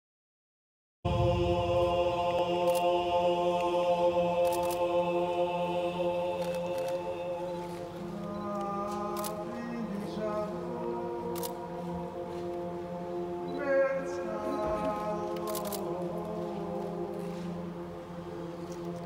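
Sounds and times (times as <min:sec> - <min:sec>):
chorus singing chords: 0:01.1 - 0:19.0.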